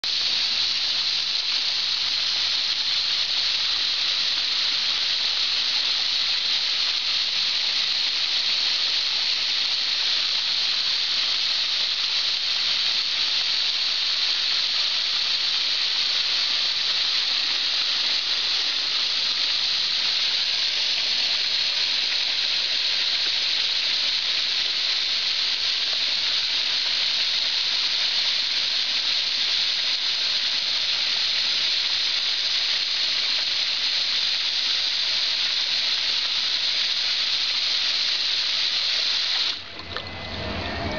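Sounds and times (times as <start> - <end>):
hose spraying water into pool: 0.0 - 40.6.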